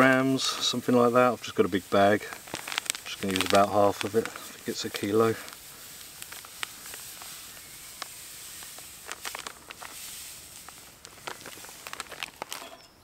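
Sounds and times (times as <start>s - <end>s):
salt pouring into a wooden bowl: 0.0s - 12.2s.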